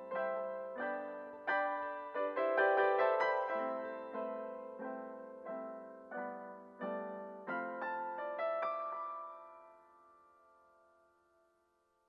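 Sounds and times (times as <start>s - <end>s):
gentle piano music: 0.0s - 11.6s.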